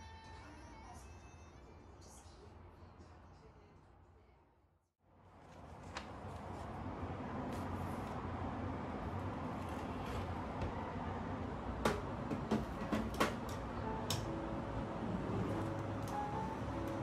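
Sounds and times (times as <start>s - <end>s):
room hum: 1.4s - 17.0s.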